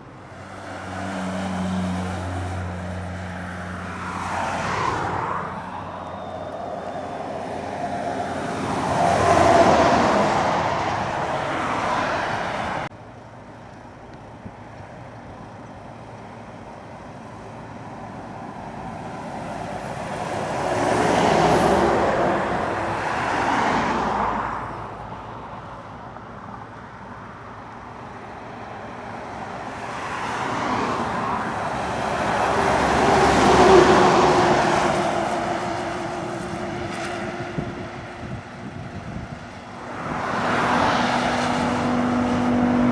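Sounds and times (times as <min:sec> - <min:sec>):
lorries passing uphill: 0:00.0 - 0:42.9.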